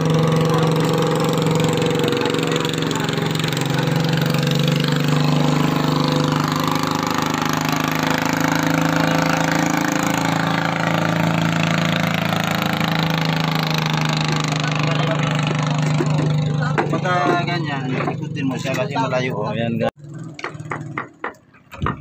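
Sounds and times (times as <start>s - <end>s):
engine droning steadily: 0.0s - 22.0s.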